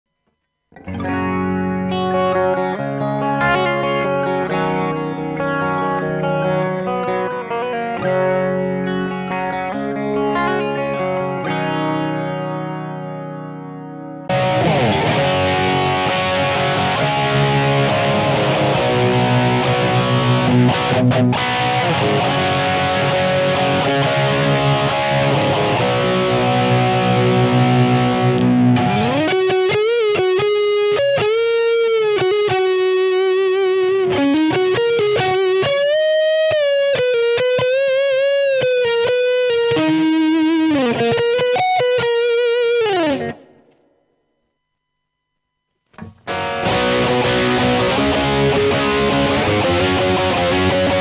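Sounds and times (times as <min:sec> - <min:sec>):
distorted electric guitar: 0:00.1 - 0:44.4, 0:45.8 - 0:51.0.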